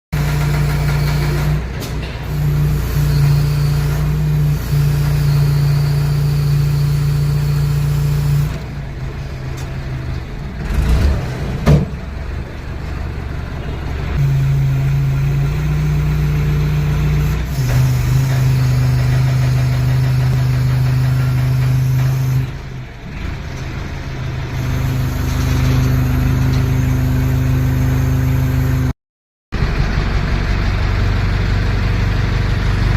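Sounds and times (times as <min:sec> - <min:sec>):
crane engine running: 0:00.1 - 0:29.0, 0:29.6 - 0:32.9.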